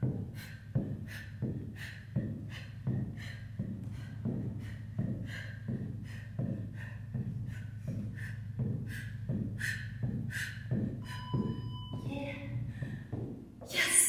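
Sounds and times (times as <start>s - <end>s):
hard rhythmic breathing: 0.0s - 14.0s.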